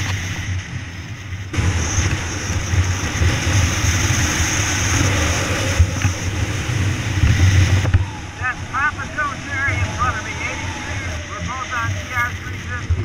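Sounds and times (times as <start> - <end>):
dirt bike engine running: 0.0 - 13.0
wind noise on microphone: 0.0 - 13.0.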